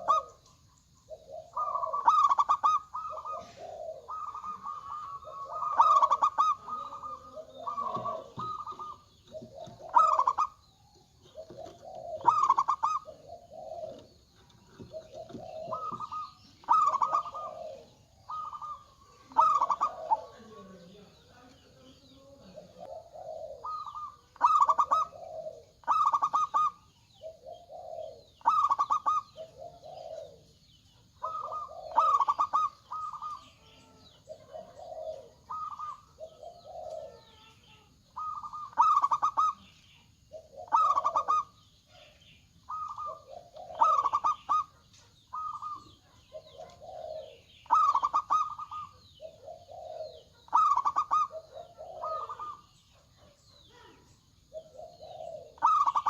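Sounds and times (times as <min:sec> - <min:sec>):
doves cooing with rattling trill: 0:00.0 - 0:56.0.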